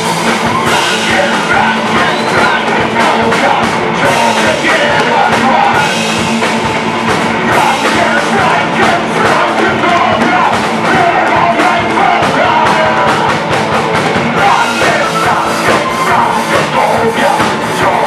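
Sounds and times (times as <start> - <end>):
bass guitar: 0.0 - 18.0
drum kit beat: 0.0 - 18.0
electric guitars: 0.0 - 18.0.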